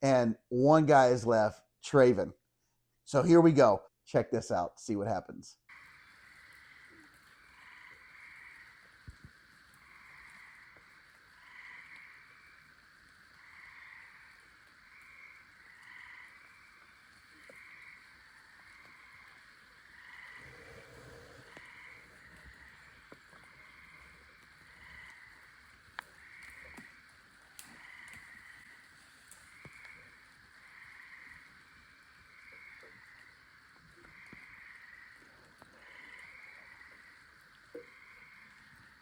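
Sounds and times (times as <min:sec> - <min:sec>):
frogs calling: 0:05.7 - 0:39.0.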